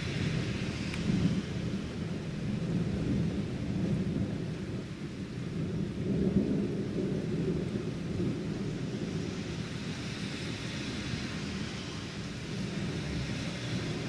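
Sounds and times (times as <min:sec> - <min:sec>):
low rumble of thunder: 0:00.0 - 0:14.0
rain falling: 0:00.0 - 0:14.0.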